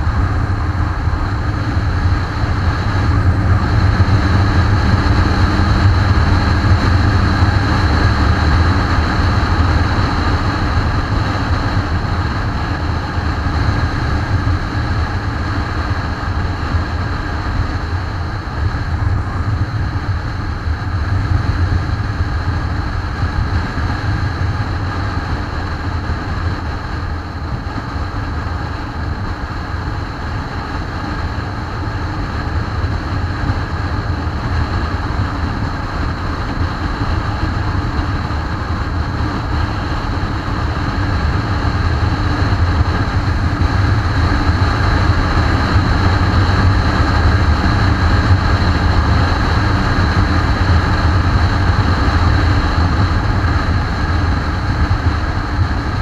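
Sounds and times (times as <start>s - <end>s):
motorcycle engine drone: 0.0s - 56.0s
wind rush: 0.0s - 56.0s.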